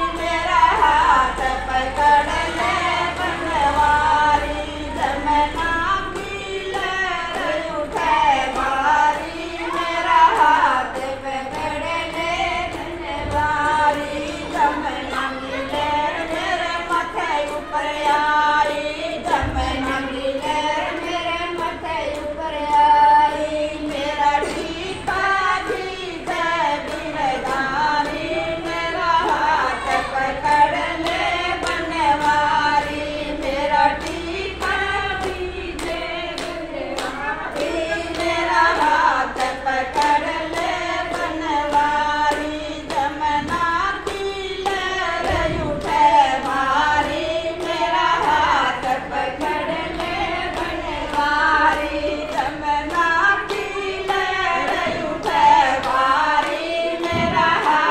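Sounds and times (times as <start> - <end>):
group of voices singing a hymn: 0.0 - 57.9
sharp hand claps: 0.1 - 57.9.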